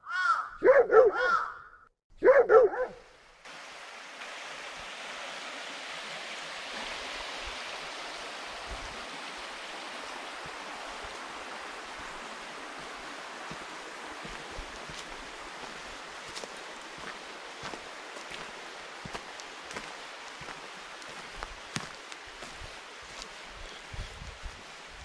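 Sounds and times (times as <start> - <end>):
stream running: 2.6 - 25.0.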